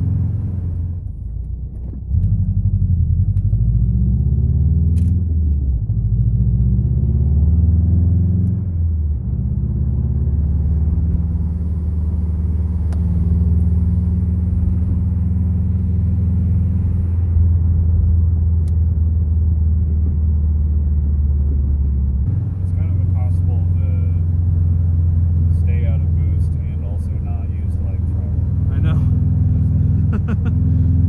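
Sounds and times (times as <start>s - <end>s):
car engine droning in cabin: 0.0s - 31.0s.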